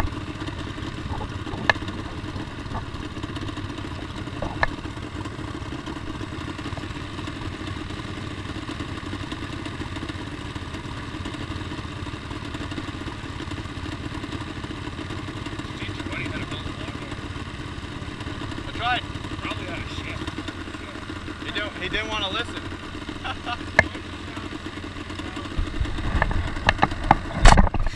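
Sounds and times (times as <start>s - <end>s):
two-stroke engine idling: 0.0s - 27.9s.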